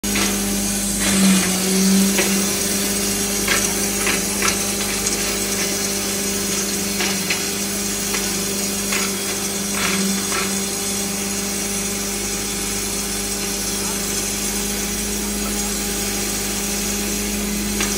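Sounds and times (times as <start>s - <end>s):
grinder motor hum: 0.0s - 17.9s.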